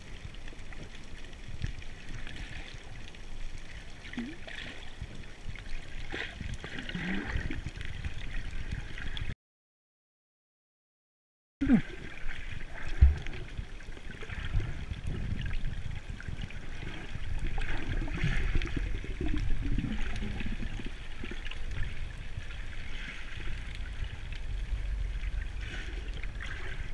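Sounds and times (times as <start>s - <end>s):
underwater rumble: 0.0s - 9.3s, 11.6s - 26.9s.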